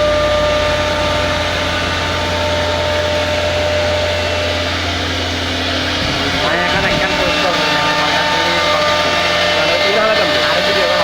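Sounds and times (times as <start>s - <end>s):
low machine hum: 0.0s - 11.0s
router spindle whine: 0.0s - 11.0s.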